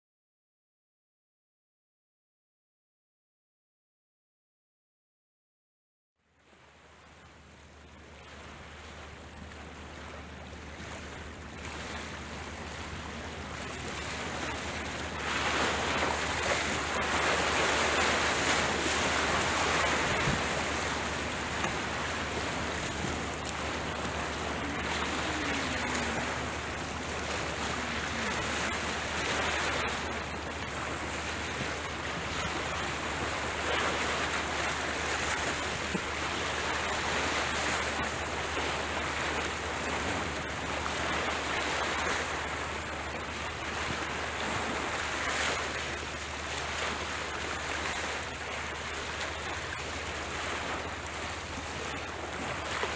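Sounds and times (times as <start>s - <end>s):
waves on shoreline: 6.4s - 52.9s
wind rumble on microphone: 6.5s - 52.9s.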